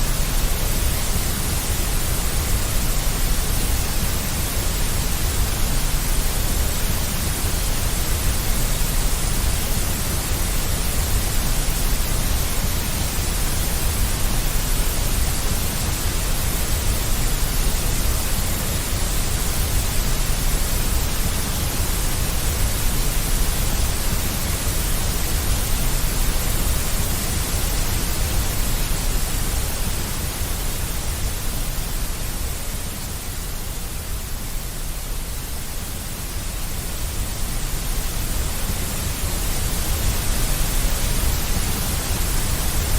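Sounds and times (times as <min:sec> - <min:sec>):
deep white noise hiss: 0:00.0 - 0:42.9.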